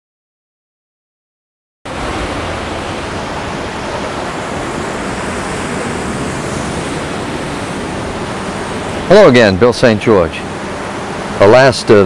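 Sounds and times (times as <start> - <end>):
ocean surf: 1.9 - 12.0
wind: 1.9 - 12.0.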